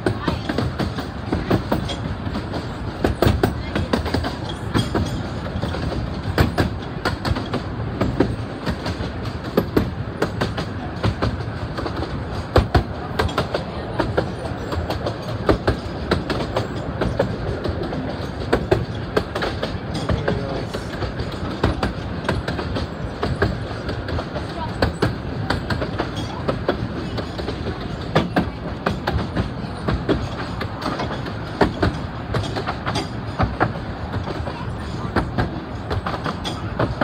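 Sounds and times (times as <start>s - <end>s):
railway carriage rumbling: 0.0s - 37.0s
wheels clicking over rail joints: 0.0s - 37.0s.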